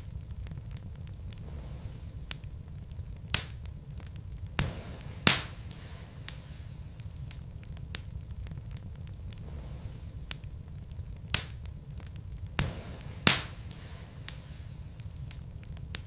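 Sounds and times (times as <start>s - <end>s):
fire pops: 0.0s - 16.0s
logs crackling in fireplace: 0.0s - 16.0s
low rumble: 0.0s - 16.0s.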